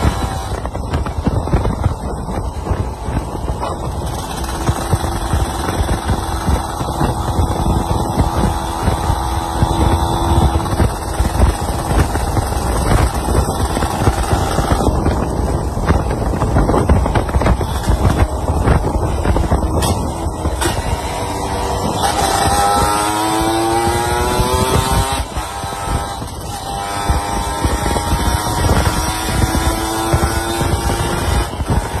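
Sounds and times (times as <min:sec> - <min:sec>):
motorbike engine accelerating: 0:00.0 - 0:32.0.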